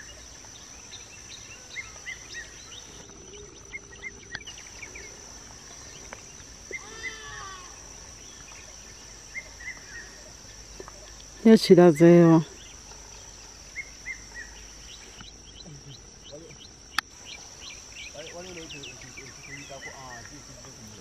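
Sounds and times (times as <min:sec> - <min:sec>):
birds chirping: 0:00.0 - 0:21.0
high insect drone: 0:00.0 - 0:21.0.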